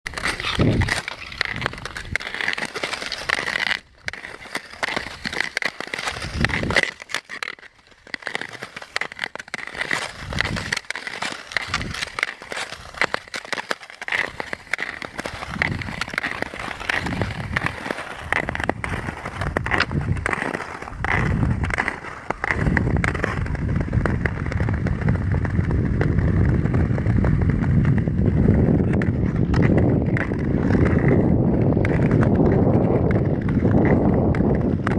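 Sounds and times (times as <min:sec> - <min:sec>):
skis scraping over ice: 0:00.0 - 0:34.9.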